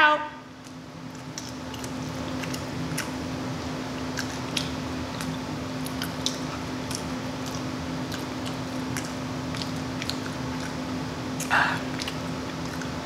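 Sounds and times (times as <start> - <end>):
steady low hum: 0.0 - 13.0
wet mouth smacks and clicks: 0.6 - 3.2, 4.0 - 10.8, 11.4 - 13.0
person chewing food: 0.6 - 13.0.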